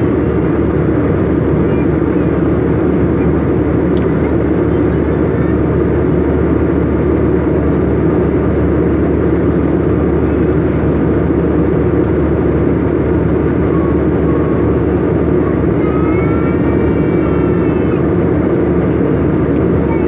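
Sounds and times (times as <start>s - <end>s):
jet airliner cabin rumble: 0.0s - 20.0s.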